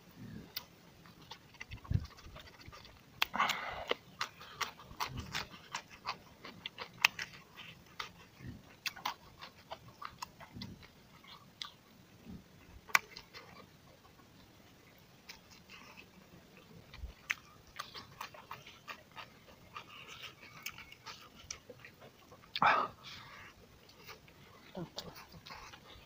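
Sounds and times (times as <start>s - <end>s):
man chewing: 0.2s - 26.0s.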